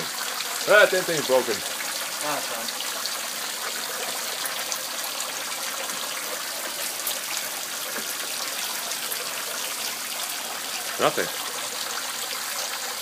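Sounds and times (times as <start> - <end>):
water running from fountain: 0.0 - 13.0.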